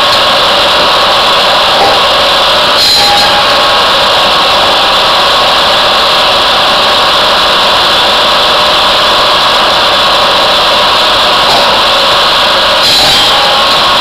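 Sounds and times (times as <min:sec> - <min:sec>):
saw running: 0:00.0 - 0:14.0
tractor diesel engine: 0:00.0 - 0:14.0.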